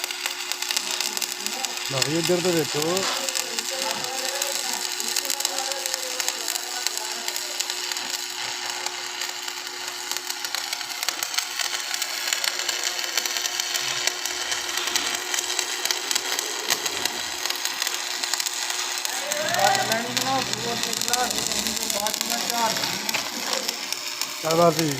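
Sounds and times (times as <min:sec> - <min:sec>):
welding arc crackling hiss: 0:00.0 - 0:24.9.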